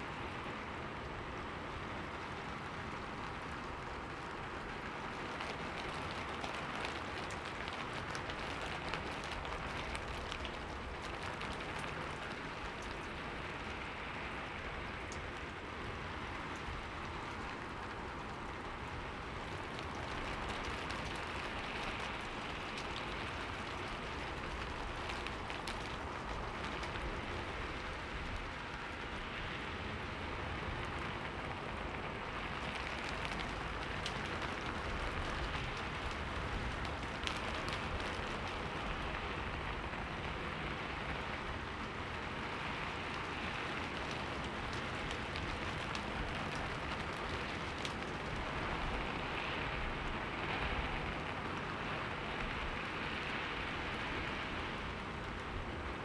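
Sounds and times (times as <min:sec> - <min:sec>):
rain on a window: 0:00.0 - 0:56.0
raindrop ticks: 0:00.1 - 0:56.0.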